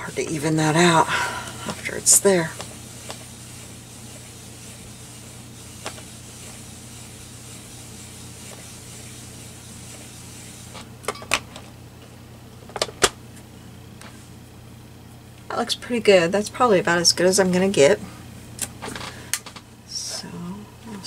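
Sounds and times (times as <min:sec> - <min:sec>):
low steady hiss and hum: 0:00.0 - 0:21.0.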